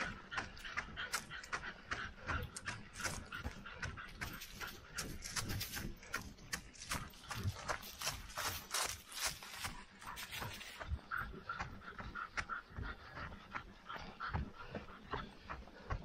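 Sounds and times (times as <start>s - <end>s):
footsteps: 0.0s - 16.0s
heavy panting breaths: 0.0s - 16.0s.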